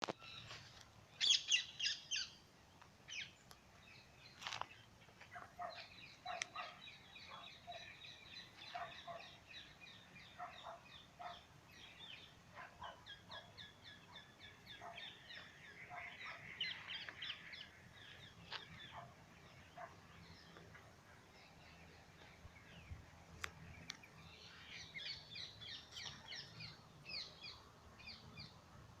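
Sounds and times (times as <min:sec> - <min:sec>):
birds chirping and trilling: 0:00.0 - 0:02.5, 0:03.1 - 0:28.6.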